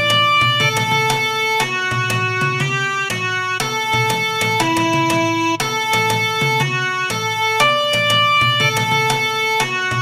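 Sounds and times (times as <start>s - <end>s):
instrumental music melody: 0.0s - 10.0s.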